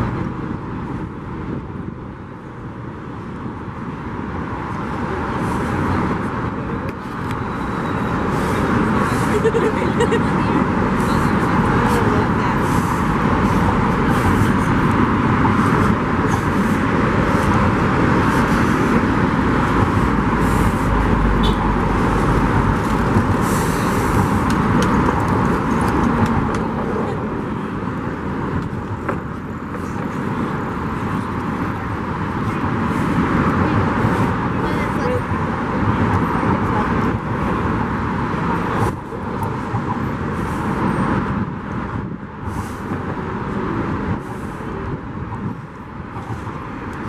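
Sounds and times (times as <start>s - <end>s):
traffic on road: 0.0s - 47.0s.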